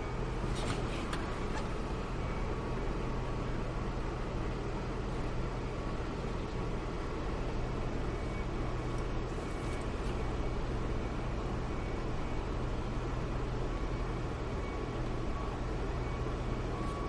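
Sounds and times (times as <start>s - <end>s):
car engine and road noise: 0.0s - 17.0s
constant low hum: 0.0s - 17.0s.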